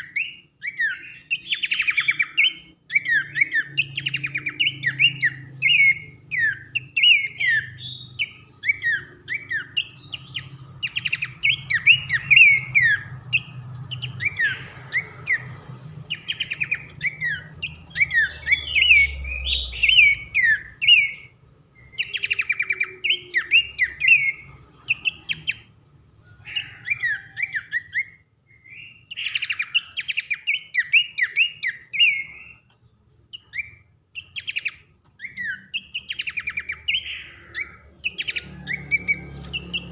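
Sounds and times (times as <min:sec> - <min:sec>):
bird singing loud whistles: 0:00.0 - 0:25.7, 0:26.4 - 0:32.6, 0:33.3 - 0:39.9.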